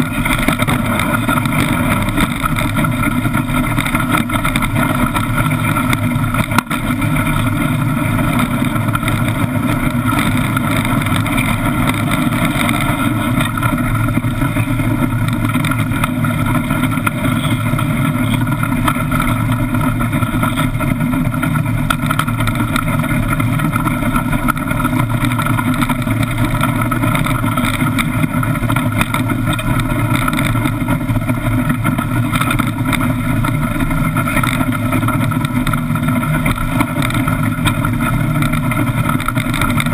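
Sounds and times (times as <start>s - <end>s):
iceboat runners rumbling on ice: 0.0s - 39.9s
wind: 0.0s - 39.9s.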